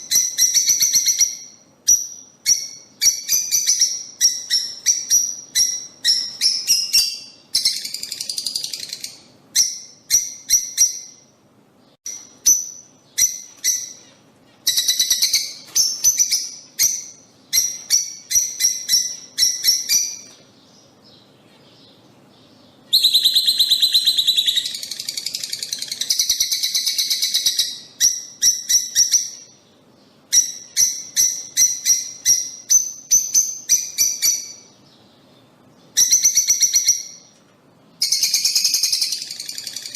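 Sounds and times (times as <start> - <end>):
lovebirds chirping and chattering: 0.0 - 39.9.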